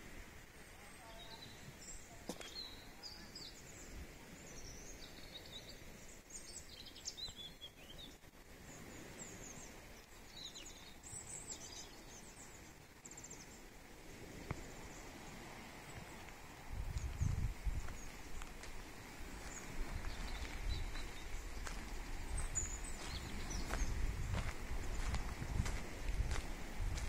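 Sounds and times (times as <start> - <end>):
low outdoor hiss: 0.0 - 27.0
songbirds chirping and twittering: 0.0 - 27.0.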